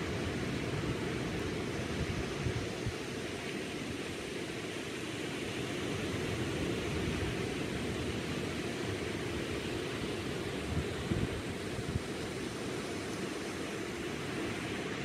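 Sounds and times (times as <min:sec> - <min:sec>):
waves breaking on sandy beach: 0:00.0 - 0:15.0.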